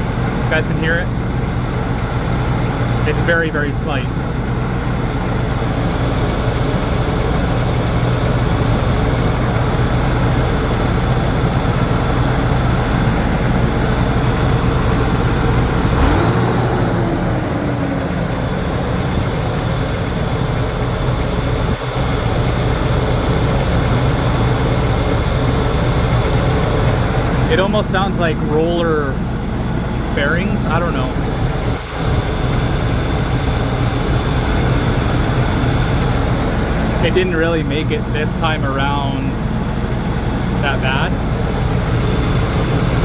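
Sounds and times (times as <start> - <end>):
car engine idling: 0.0 - 43.0
slight engine whine: 0.0 - 43.0.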